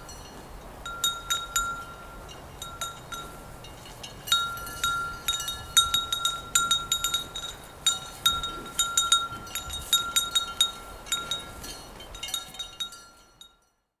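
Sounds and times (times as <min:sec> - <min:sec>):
cowbells clanking: 0:00.0 - 0:13.8.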